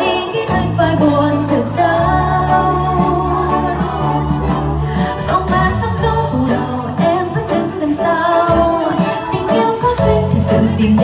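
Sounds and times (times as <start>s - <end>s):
backing track with bass: 0.0s - 11.0s
woman singing a pop ballad: 0.0s - 11.0s.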